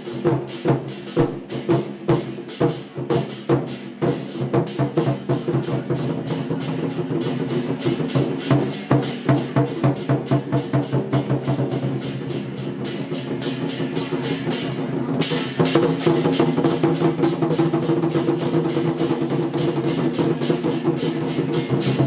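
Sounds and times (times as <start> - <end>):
war drums beating: 0.0 - 22.0.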